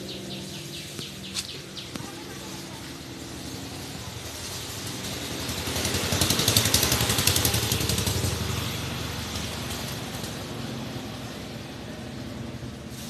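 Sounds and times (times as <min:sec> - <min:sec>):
motor vehicle passing by: 0:00.0 - 0:13.0.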